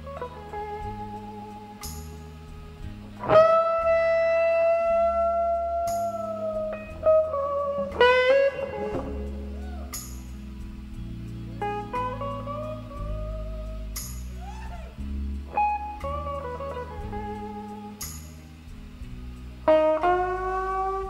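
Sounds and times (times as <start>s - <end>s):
sliding guitar notes: 0.0s - 21.0s
steady bass line: 0.0s - 21.0s.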